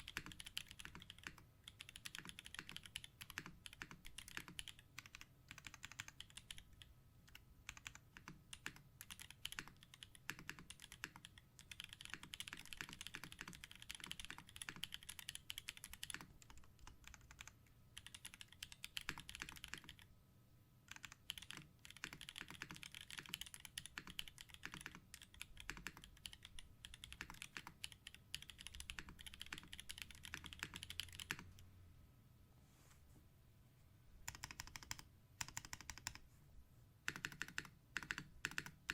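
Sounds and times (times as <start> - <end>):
mechanical keyboard typing: 0.0 - 20.1, 20.9 - 31.6, 34.2 - 36.2, 37.1 - 38.9.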